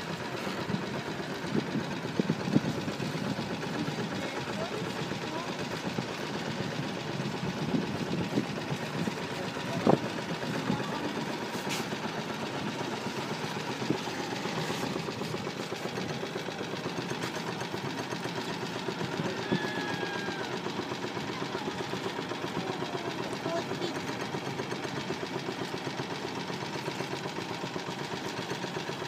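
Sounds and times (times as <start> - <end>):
small boat engine chugging: 0.0 - 29.0.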